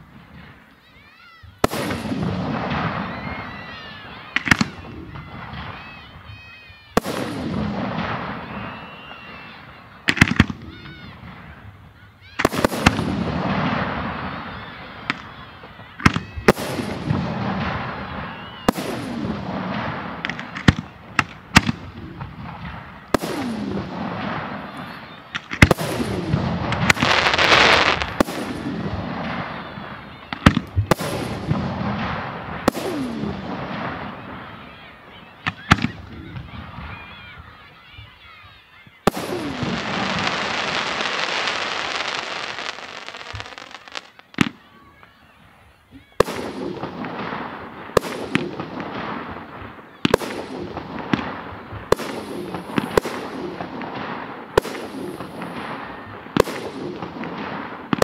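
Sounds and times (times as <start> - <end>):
fireworks bursting: 1.5 - 38.0, 39.0 - 58.0.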